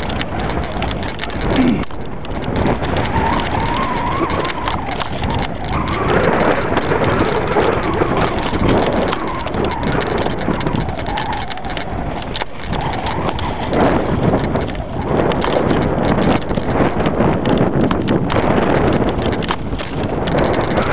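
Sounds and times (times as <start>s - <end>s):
bike rattling and knocking: 0.0s - 20.9s.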